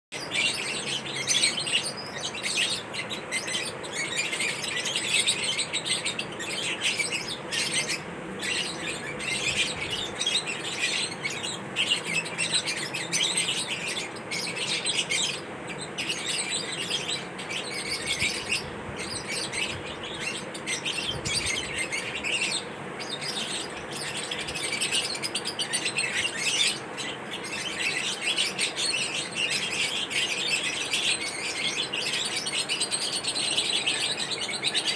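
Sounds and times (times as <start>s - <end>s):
parrots chirping and chattering: 0.2s - 34.9s.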